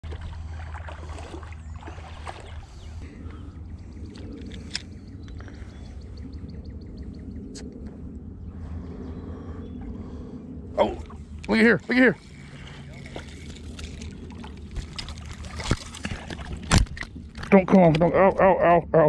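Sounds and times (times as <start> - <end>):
water sloshing from wading: 0.0 - 18.1
steady low rumble: 0.0 - 19.0.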